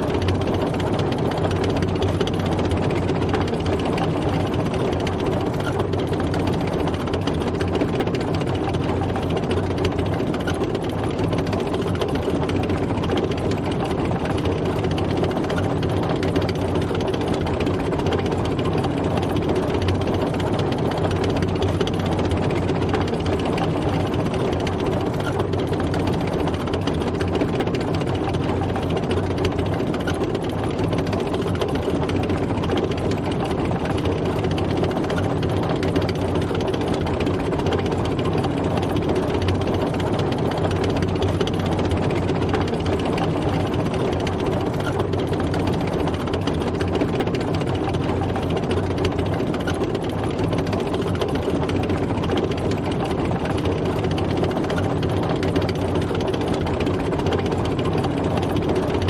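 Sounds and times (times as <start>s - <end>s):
tank engine running: 0.0s - 59.0s.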